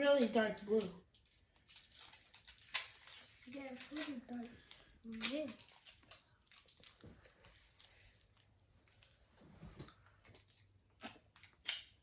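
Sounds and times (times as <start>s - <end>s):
child eating hard candy: 0.0s - 12.0s.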